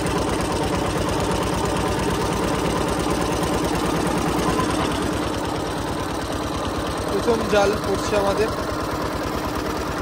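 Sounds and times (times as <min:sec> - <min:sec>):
boat engine running slowly: 0:00.0 - 0:10.0.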